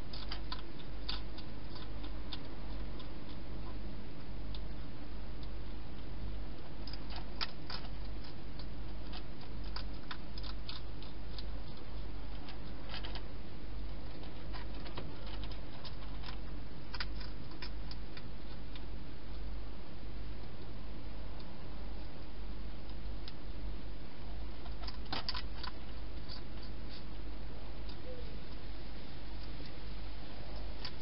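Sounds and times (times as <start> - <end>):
hedgehog crunching food: 0.0 - 31.0
steady low hum: 0.0 - 31.0.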